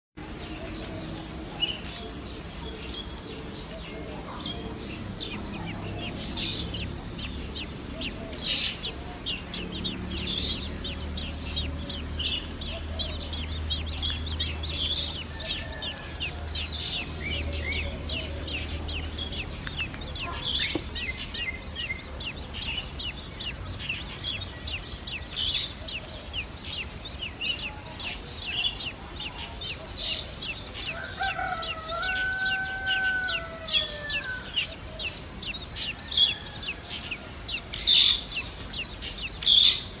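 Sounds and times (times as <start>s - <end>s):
nestlings chirping: 0.2s - 40.0s.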